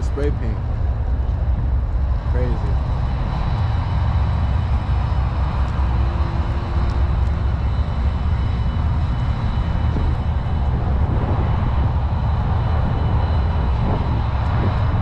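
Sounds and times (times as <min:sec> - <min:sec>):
scooter road rumble: 0:00.0 - 0:15.0
wind on microphone: 0:00.0 - 0:15.0.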